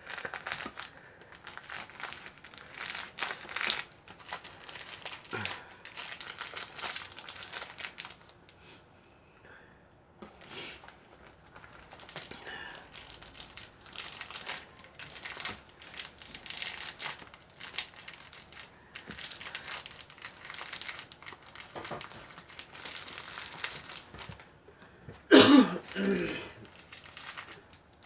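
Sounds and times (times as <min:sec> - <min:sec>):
stiff paper crinkling: 0:00.0 - 0:08.4, 0:10.3 - 0:24.5, 0:25.1 - 0:28.0.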